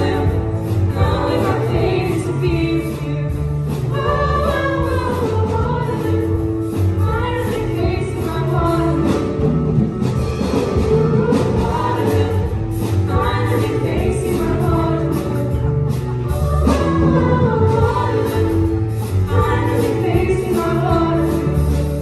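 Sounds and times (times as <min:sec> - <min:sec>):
women singing together: 0:00.0 - 0:09.4, 0:10.8 - 0:22.0
instrumental accompaniment: 0:00.0 - 0:22.0.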